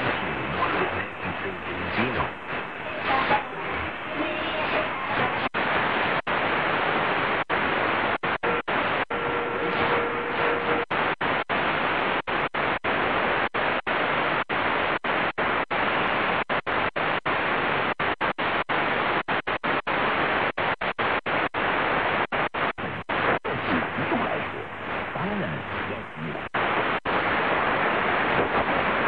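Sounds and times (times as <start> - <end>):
shortwave radio static hiss: 0.0 - 29.0.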